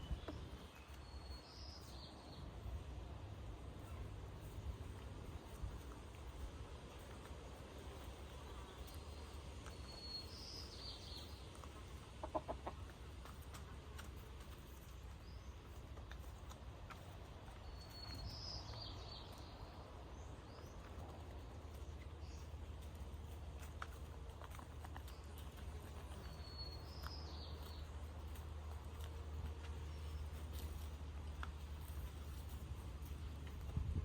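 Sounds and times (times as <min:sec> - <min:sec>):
chickens clucking: 0:03.7 - 0:33.7.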